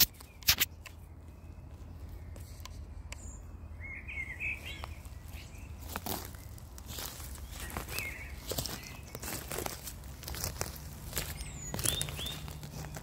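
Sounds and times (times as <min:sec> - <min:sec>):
bird chirping call: 0:00.0 - 0:13.0.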